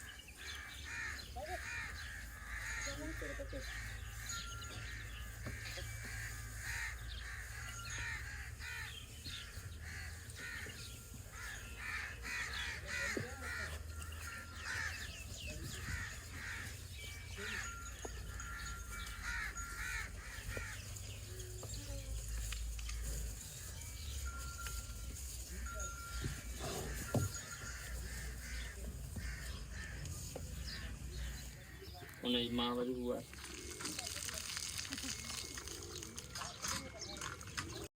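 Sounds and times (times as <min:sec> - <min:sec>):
birds calling: 0:00.0 - 0:37.9.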